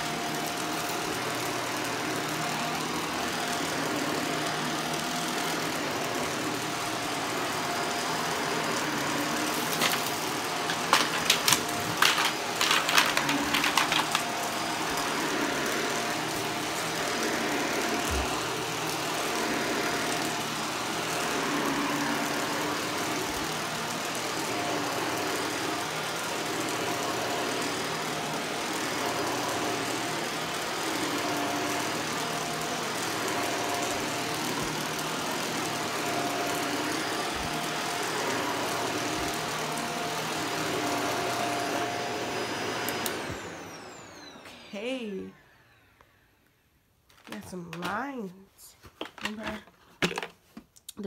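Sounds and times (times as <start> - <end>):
vacuum cleaner on carpet: 0.0 - 50.3.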